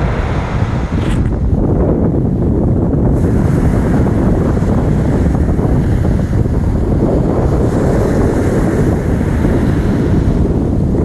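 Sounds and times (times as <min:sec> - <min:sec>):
small waves breaking on shore: 0:00.0 - 0:01.8, 0:02.8 - 0:11.0
wind buffeting microphone: 0:00.0 - 0:11.0.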